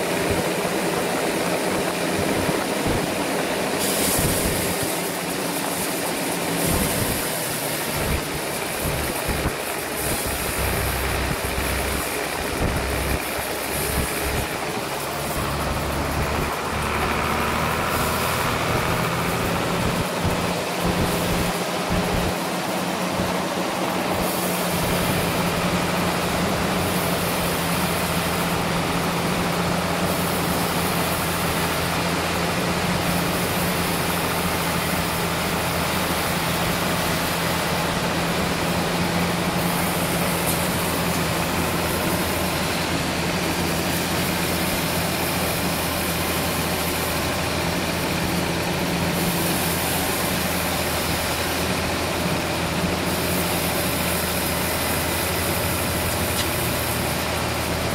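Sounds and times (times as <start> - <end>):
sawmill engine droning: 0.0 - 57.9.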